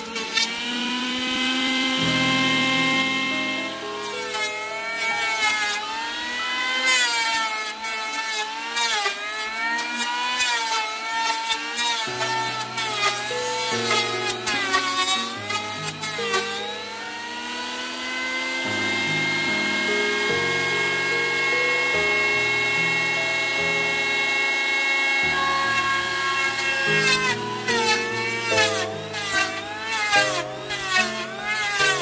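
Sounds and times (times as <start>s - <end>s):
background music: 0.0s - 7.8s, 12.0s - 32.0s
electric planer whining: 0.0s - 32.0s.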